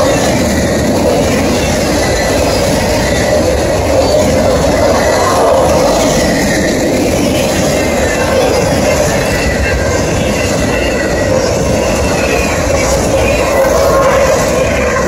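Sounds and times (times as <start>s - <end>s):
steel train wheels on rails: 0.0s - 15.0s.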